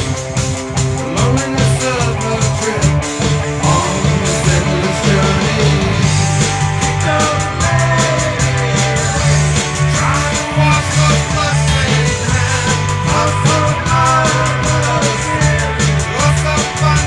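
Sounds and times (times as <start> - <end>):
rock band playing: 0.0 - 17.0
person singing: 1.0 - 17.0.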